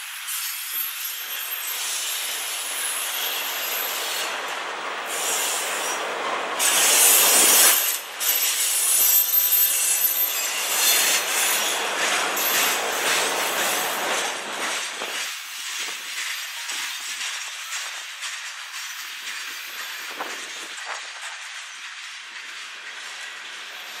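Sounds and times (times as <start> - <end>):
freight train rolling past: 0.0 - 24.0
steel wheels screeching on rails: 0.0 - 24.0.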